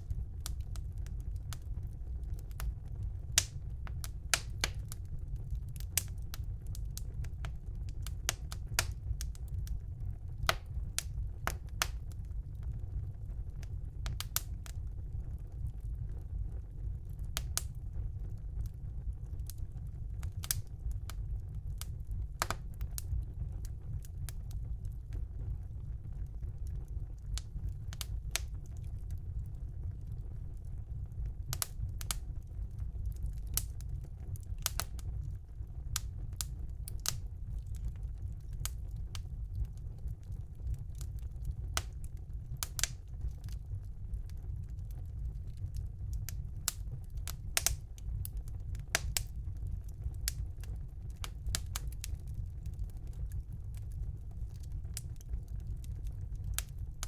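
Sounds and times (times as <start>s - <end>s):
burning logs popping and crackling: 0.0s - 57.0s
low rumble of flames: 0.0s - 57.0s.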